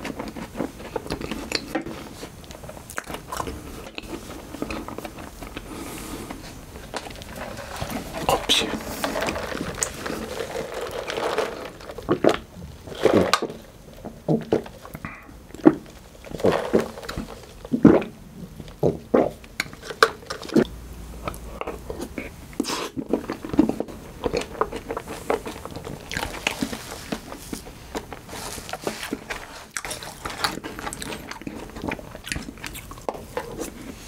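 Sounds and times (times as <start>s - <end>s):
chewing and swallowing: 0.0s - 13.6s, 14.2s - 34.0s.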